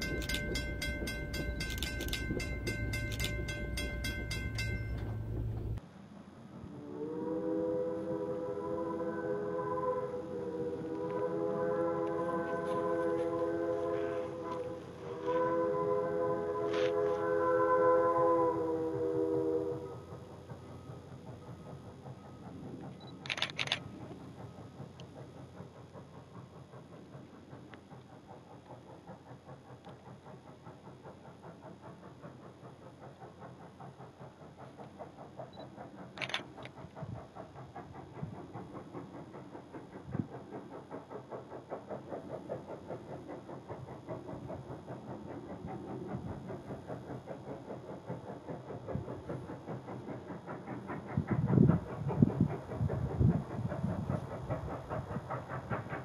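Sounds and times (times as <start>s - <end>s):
steam locomotive exhaust chuffing: 0.0s - 5.8s, 6.5s - 56.0s.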